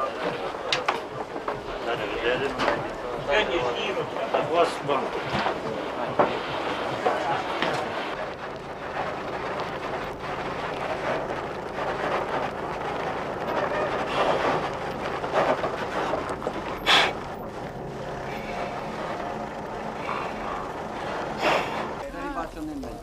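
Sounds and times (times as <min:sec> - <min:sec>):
diesel bus engine droning: 0:00.0 - 0:23.0
tyres rushing on gravel: 0:00.0 - 0:23.0.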